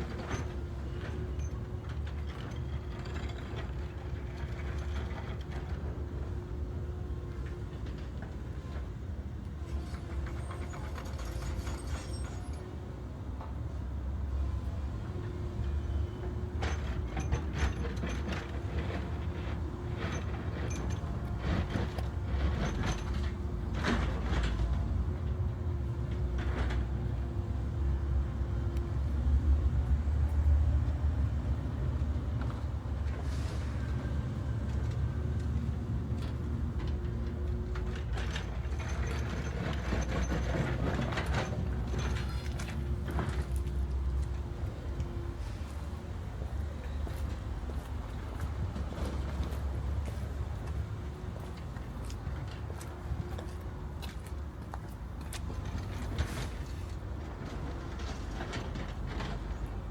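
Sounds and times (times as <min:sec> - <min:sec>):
metal clanks and creaks: 0:00.0 - 0:13.7, 0:15.1 - 0:27.3, 0:32.4 - 0:59.9
diesel engine low rumble: 0:00.0 - 0:59.9.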